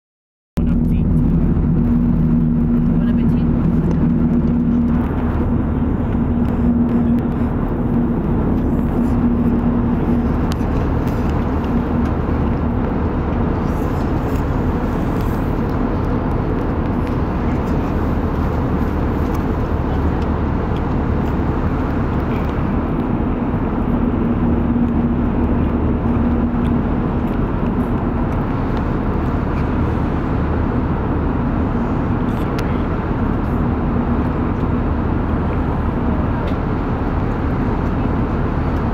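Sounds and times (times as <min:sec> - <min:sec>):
airliner cabin hum: 0:00.6 - 0:38.9.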